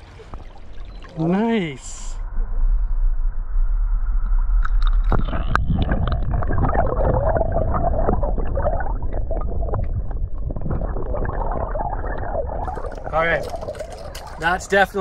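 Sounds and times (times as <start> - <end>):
muffled underwater river rush: 0.0 - 15.0.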